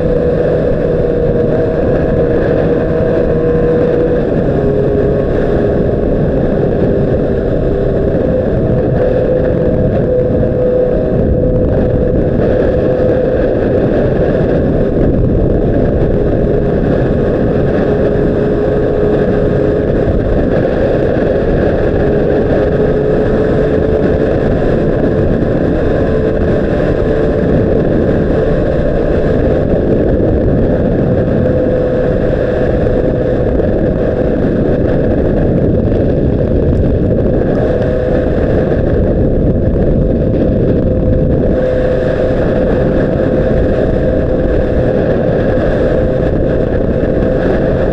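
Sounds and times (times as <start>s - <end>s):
motorcycle engine running: 0.0s - 47.9s
wind rumble on microphone: 0.0s - 47.9s.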